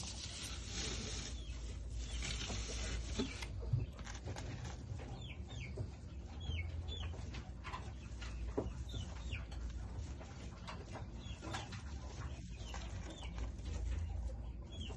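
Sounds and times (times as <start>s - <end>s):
gerbils rustling in dry hay: 0.0s - 14.9s.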